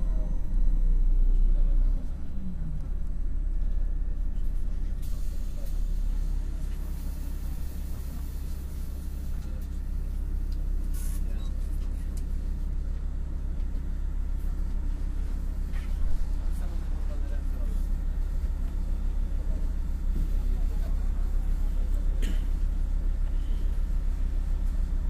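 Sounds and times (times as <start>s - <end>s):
bus drivetrain rumble: 0.0s - 25.0s.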